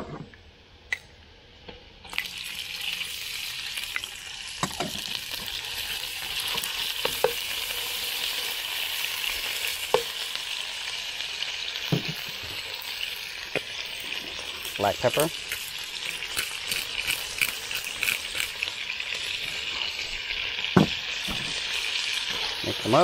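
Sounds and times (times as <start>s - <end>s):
meat sizzling in hot oil: 2.1s - 23.0s.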